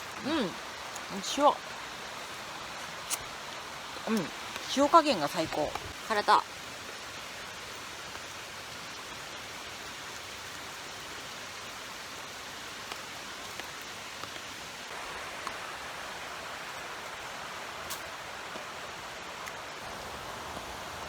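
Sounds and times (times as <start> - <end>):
hiss of water: 0.0 - 6.0, 6.6 - 21.0.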